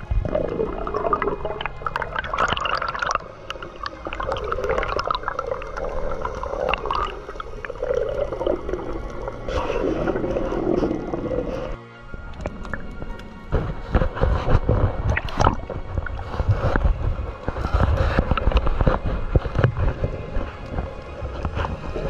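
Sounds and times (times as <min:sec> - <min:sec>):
water gurgling and rushing: 0:00.0 - 0:22.0.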